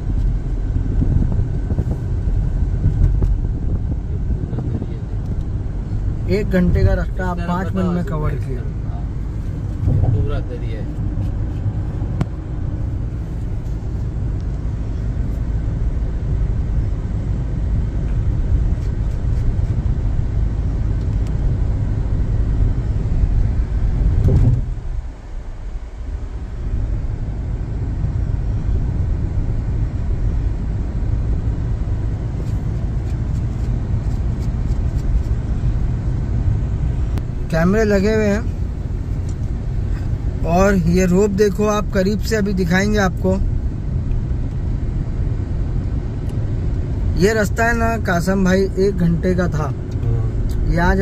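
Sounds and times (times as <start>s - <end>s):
road and wind noise inside car: 0.0s - 51.0s.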